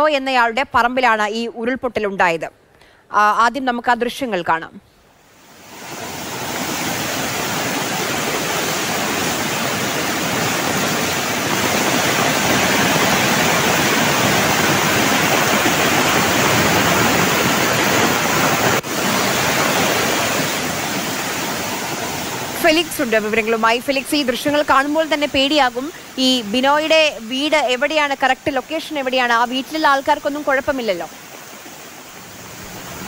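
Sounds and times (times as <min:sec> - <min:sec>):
stream rushing in a torrent: 0:05.3 - 0:33.0.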